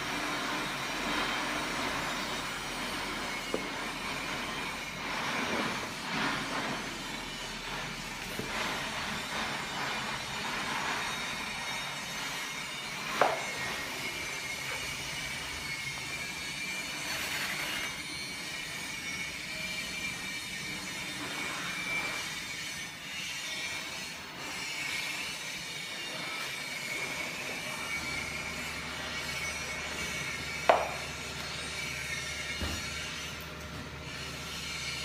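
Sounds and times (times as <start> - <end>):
high-pitched machine whine: 0.0 - 35.0.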